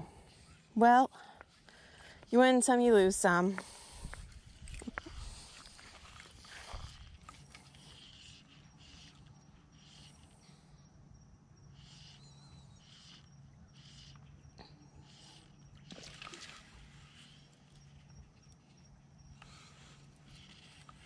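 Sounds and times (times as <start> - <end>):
faint pond ambience: 0.0 - 21.0.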